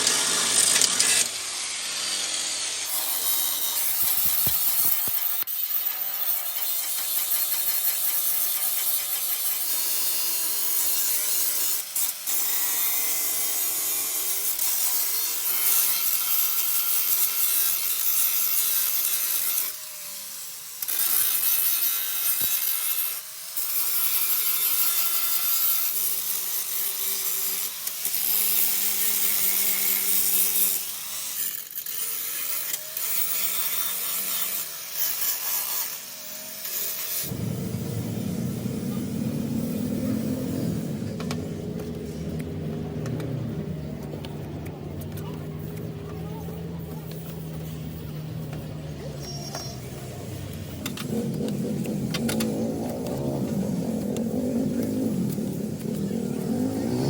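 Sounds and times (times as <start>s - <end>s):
power tool grinding metal: 0.0s - 57.0s.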